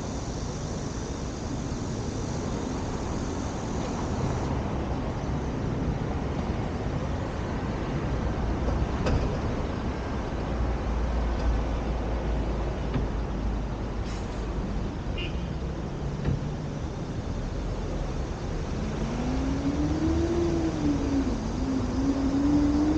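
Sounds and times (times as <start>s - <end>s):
road traffic rumble: 0.0s - 22.9s.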